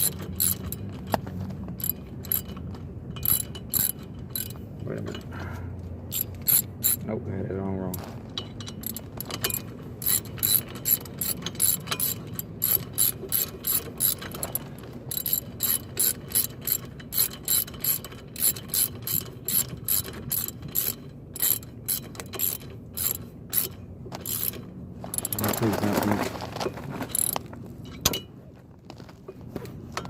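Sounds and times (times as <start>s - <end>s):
ratchet wrench clicking: 0.0s - 5.3s, 6.1s - 7.1s, 7.9s - 25.6s, 27.1s - 27.4s.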